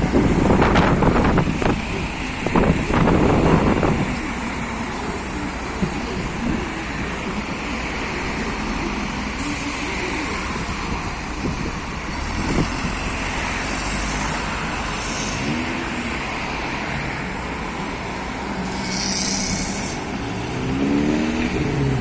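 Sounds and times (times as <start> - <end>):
bus diesel engine rumble: 0.0 - 22.0
road noise: 0.0 - 22.0.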